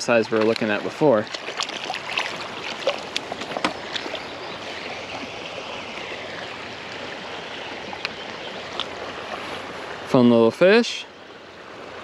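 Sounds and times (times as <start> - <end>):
small splashes: 0.0 - 9.8
creek water running: 0.0 - 12.0.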